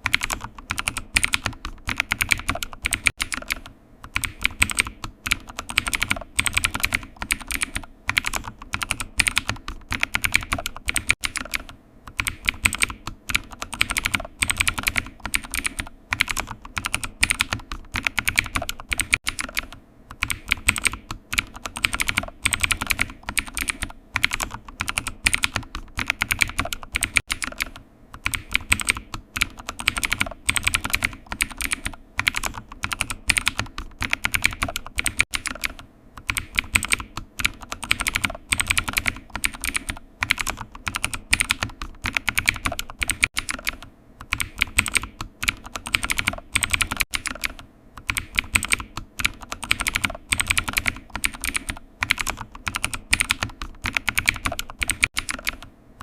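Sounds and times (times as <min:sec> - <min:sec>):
computer keyboard typing: 0:00.0 - 0:55.7.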